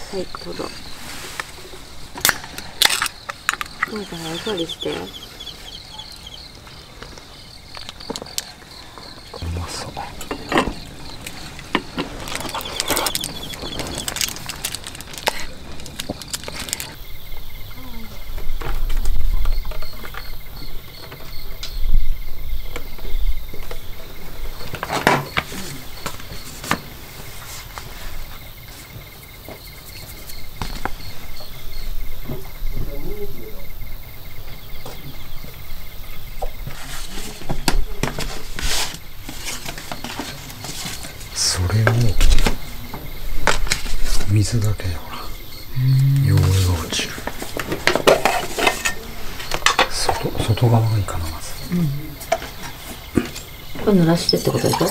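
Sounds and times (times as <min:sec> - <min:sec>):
night insects chirping: 0:00.0 - 0:54.9.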